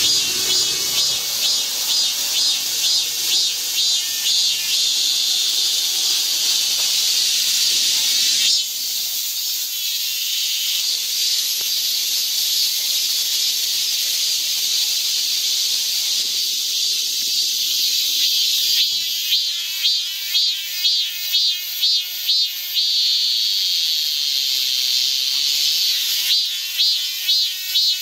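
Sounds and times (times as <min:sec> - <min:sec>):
cicadas buzzing: 0:00.0 - 0:28.0.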